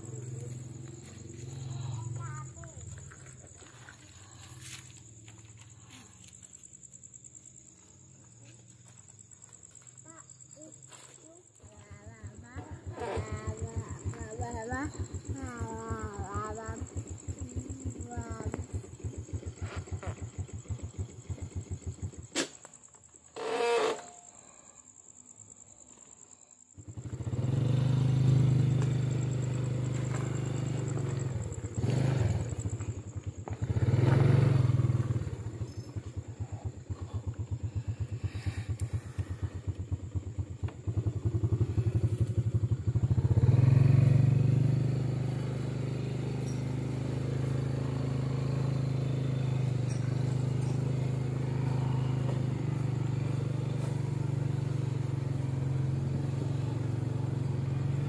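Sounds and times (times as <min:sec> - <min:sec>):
motorcycle engine revving: 0:00.0 - 0:06.5, 0:10.8 - 0:24.2, 0:26.8 - 0:58.0.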